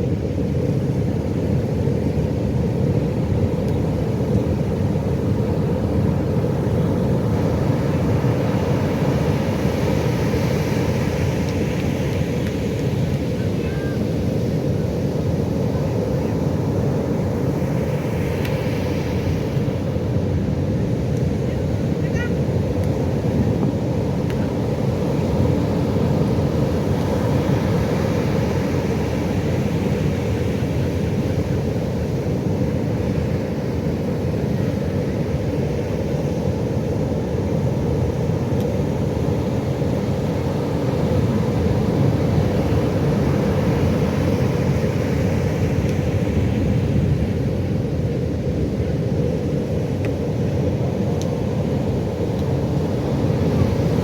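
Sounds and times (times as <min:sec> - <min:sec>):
waves breaking: 0:03.8 - 0:54.0.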